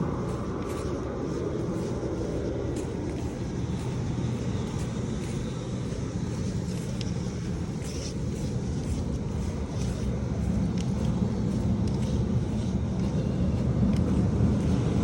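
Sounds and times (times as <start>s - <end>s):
bicycle tyres rolling on path: 0.0s - 15.0s
wind on microphone: 0.0s - 15.0s.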